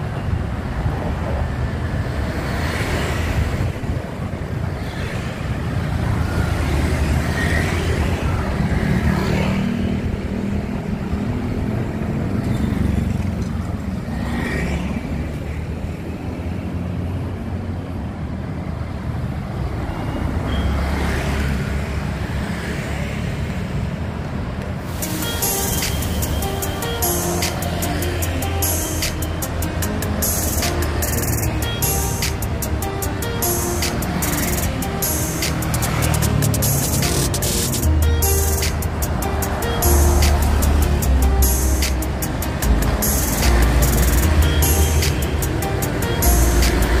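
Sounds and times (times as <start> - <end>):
traffic rumble: 0.0 - 47.0
vehicles passing close by: 0.0 - 47.0.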